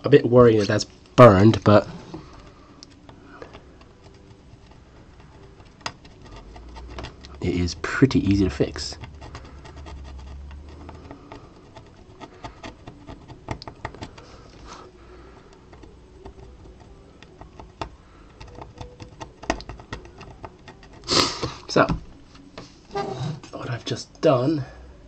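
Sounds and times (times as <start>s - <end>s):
tool scratching circuit board: 0.6s - 22.3s.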